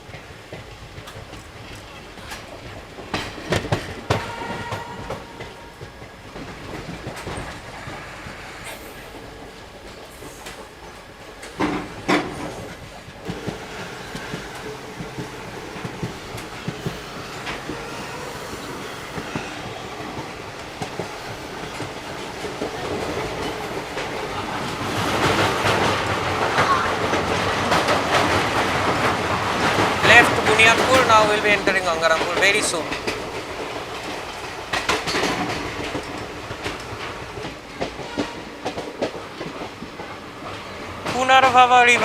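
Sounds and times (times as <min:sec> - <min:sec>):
train running rumble: 0:00.0 - 0:42.0
train wheels clattering over rail joints: 0:00.0 - 0:42.0.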